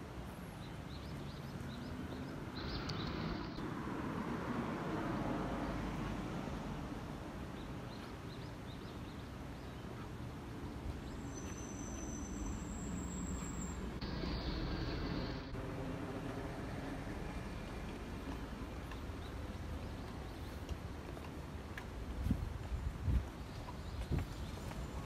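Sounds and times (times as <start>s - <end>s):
vehicle traffic rumble: 0.0s - 25.0s.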